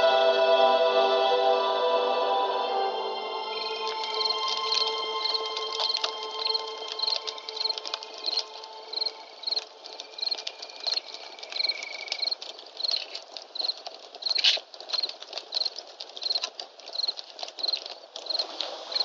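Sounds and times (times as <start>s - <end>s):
crickets chirping: 3.0s - 19.0s
campfire crackling and popping: 3.4s - 19.0s.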